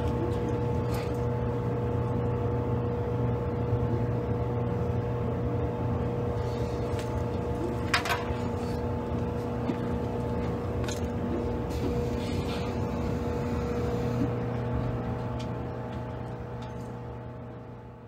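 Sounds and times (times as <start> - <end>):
electric train interior hum: 0.0 - 18.0.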